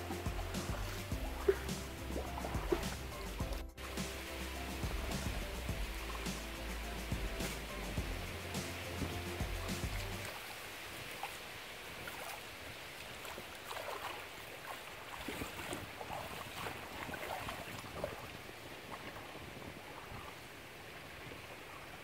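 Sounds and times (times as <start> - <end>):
water splashing around hand: 0.0 - 20.3.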